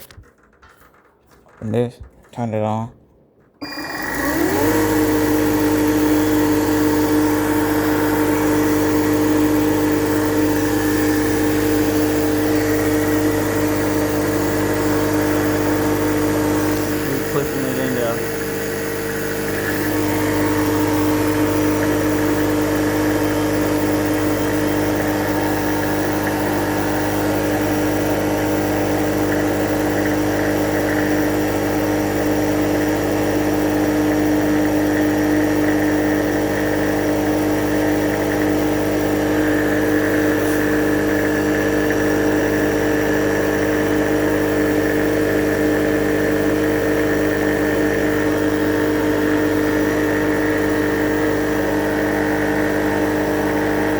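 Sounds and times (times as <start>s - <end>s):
refrigerant recovery machine humming: 3.6s - 53.9s.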